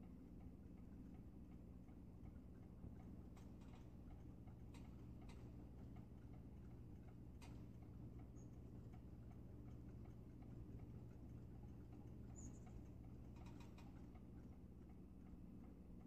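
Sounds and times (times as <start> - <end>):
faint repeating ticking: 0.0 - 16.0
low steady hum: 0.0 - 16.0.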